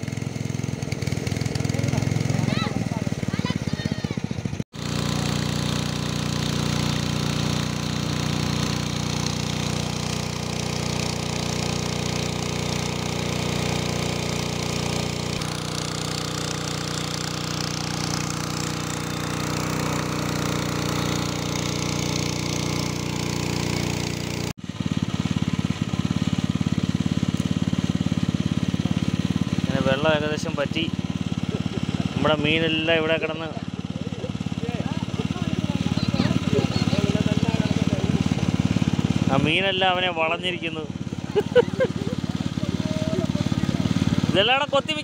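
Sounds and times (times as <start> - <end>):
engine-driven water pump running: 0.0 - 45.0.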